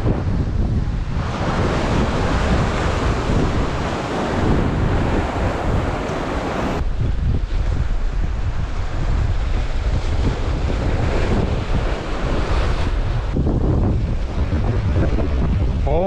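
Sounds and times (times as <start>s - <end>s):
ocean surf washing against rock: 0.0s - 16.0s
wind rumbling on microphone: 0.0s - 16.0s.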